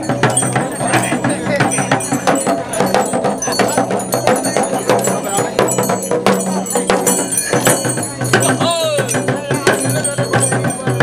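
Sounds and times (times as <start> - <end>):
brass bells jingling: 0.0 - 11.0
frame drum beaten with stick: 0.0 - 11.0.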